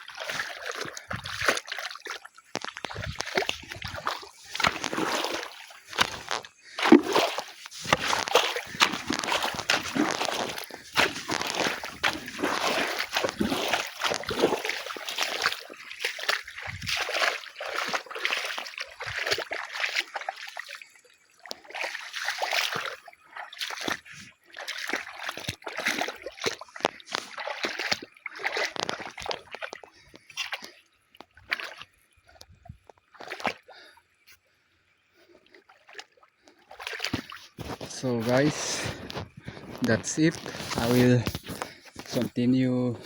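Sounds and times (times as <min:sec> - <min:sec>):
tool digging in mud: 0:00.0 - 0:20.7, 0:21.5 - 0:30.8, 0:33.1 - 0:33.6, 0:36.7 - 0:42.3
water splashing and sloshing: 0:00.0 - 0:43.0.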